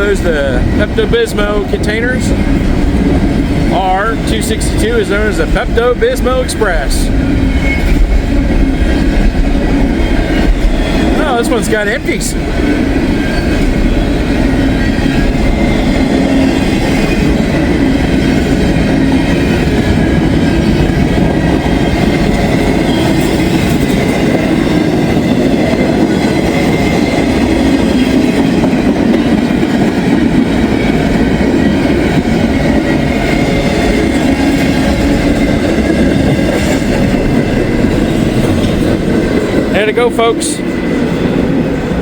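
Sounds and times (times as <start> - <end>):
freight train rumbling over rails: 0.0 - 42.0.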